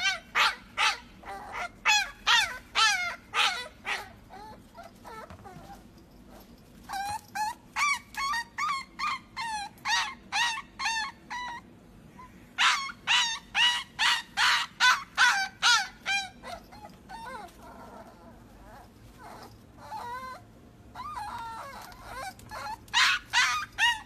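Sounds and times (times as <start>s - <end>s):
puppy yipping: 0.0s - 11.7s, 12.6s - 24.0s.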